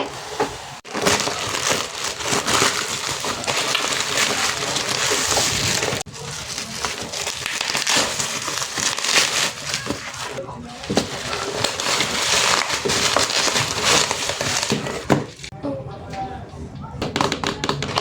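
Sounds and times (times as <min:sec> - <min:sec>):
packaging crinkling: 0:00.0 - 0:15.5.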